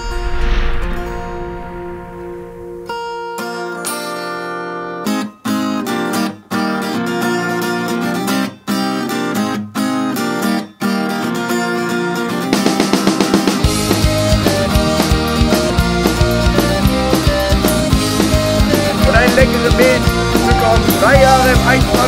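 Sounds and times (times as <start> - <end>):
plucked string instrument music: 2.5 - 22.0.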